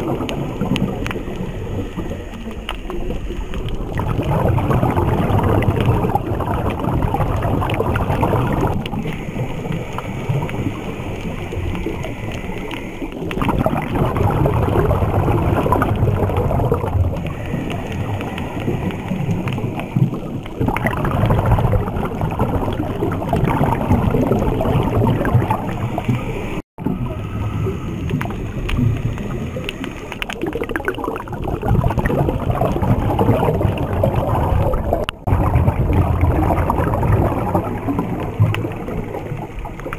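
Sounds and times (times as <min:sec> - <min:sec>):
diver exhaling bubbles: 0:00.0 - 0:39.9
underwater rushing and gurgling: 0:00.0 - 0:39.9.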